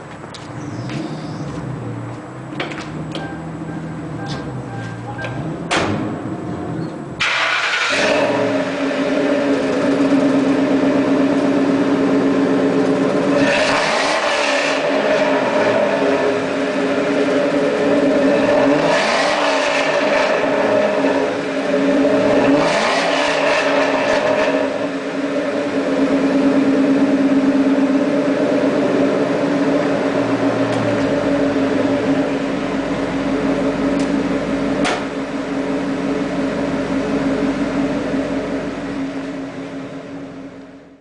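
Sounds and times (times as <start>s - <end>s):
car engine revving: 0.4s - 41.0s.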